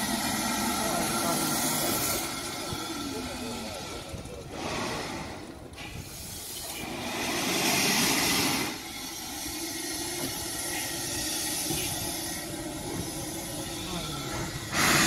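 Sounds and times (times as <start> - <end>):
steam locomotive hissing steam: 0.0 - 15.0.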